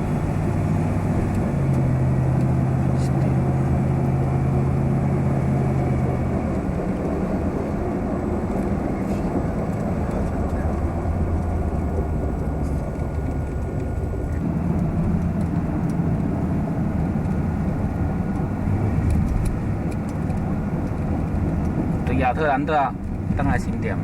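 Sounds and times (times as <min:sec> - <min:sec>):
car engine and road hum: 0:00.0 - 0:24.0.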